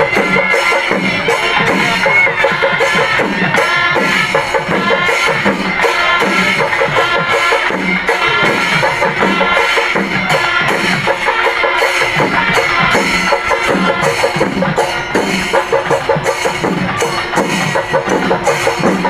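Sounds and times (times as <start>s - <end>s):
fast drumbeats: 0.0s - 19.0s
held melodic tones: 0.0s - 19.0s.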